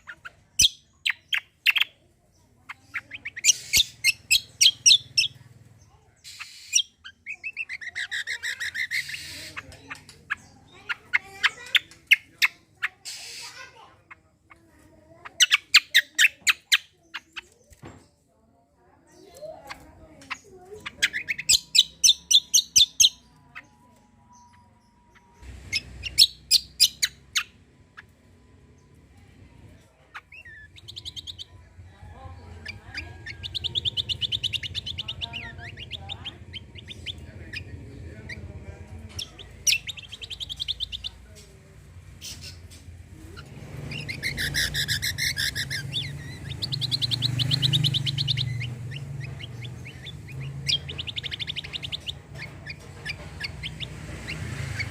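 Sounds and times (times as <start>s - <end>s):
songbird trilling: 0.0s - 2.0s, 2.7s - 14.2s, 15.2s - 17.6s, 19.1s - 28.1s, 30.1s - 54.9s.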